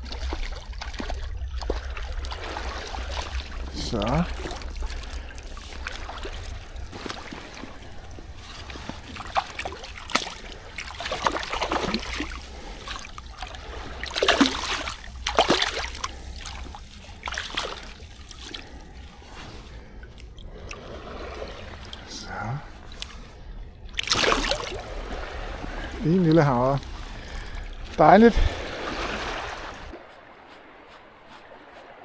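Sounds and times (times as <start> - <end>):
shallow water splashing: 0.0 - 32.0.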